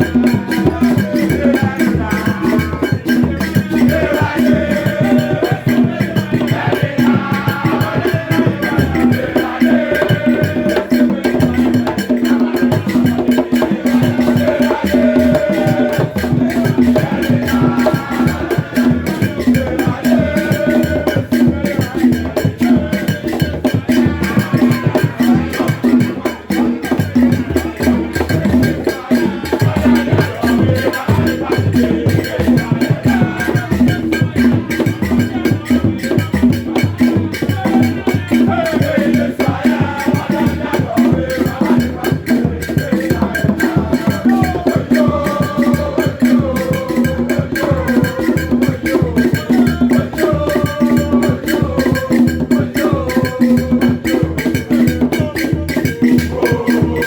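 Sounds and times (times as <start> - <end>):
loud music with fast percussion: 0.0 - 57.0.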